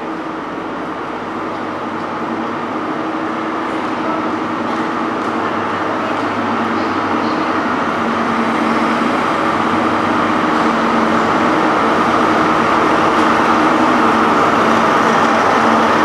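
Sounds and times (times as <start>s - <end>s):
train diesel engine drone: 0.0s - 16.0s.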